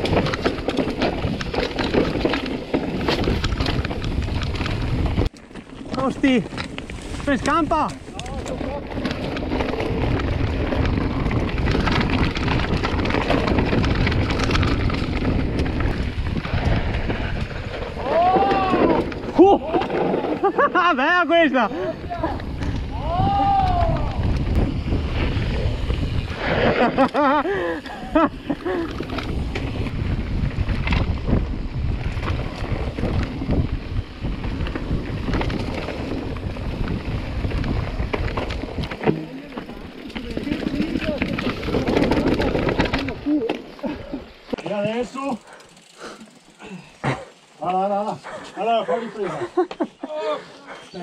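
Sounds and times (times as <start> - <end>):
wind rushing over microphone: 0.0 - 20.7, 21.6 - 44.4
tyres rumbling over dirt and stones: 0.0 - 48.4
bike rattling clicks: 0.0 - 48.6.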